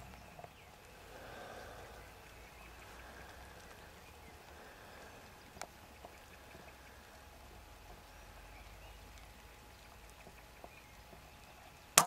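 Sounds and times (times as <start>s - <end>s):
low even hiss: 0.0s - 12.0s.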